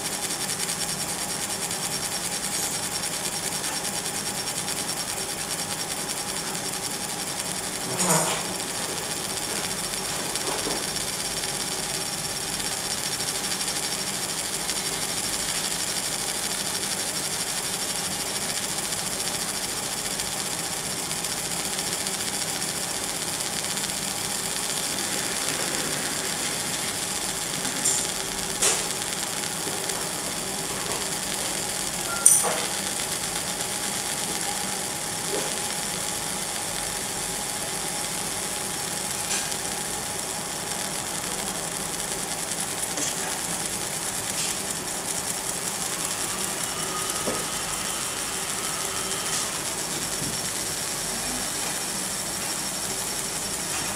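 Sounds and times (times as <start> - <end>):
laser marking machine whining: 0.0 - 53.9.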